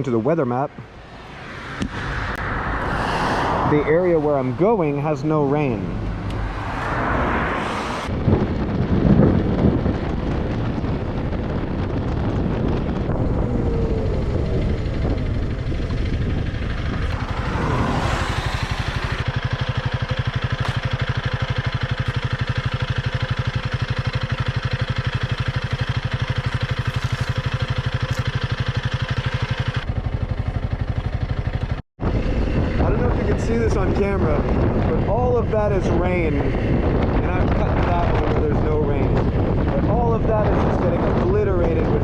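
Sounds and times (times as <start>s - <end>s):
motorcycle engine while riding: 0.0s - 42.0s.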